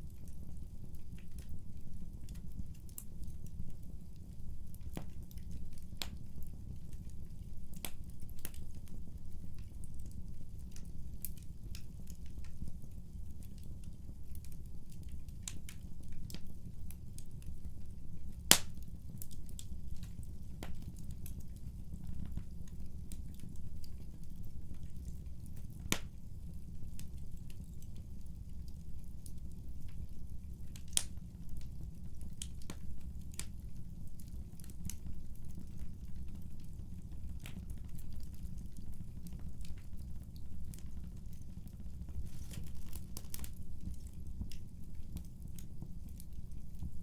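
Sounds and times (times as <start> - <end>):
fire crackles and pops: 0.0 - 47.0
wood fire rumbling: 0.0 - 47.0.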